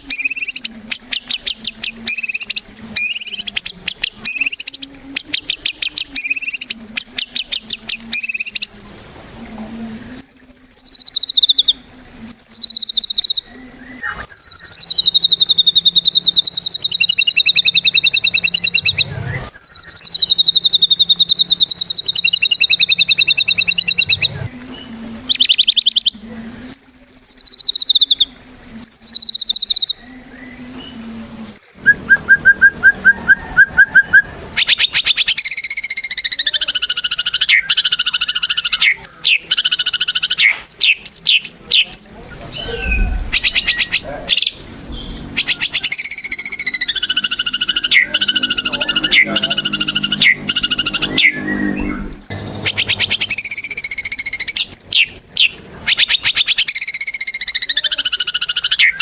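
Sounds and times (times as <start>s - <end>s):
faint low hum: 0.0s - 56.7s
bird singing buzzy trills: 0.0s - 59.0s.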